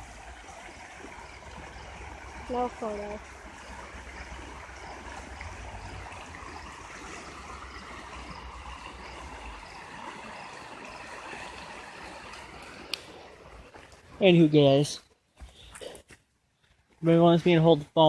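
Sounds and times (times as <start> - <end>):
rushing flowing water: 0.0 - 14.9.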